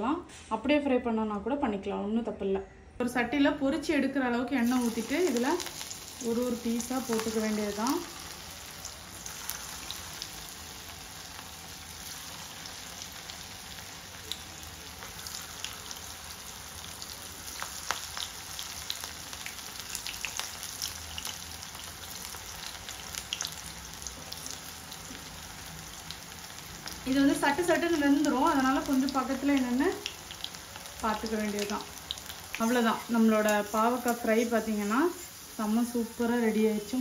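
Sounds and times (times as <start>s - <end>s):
deep-frying sizzle: 4.6s - 37.0s.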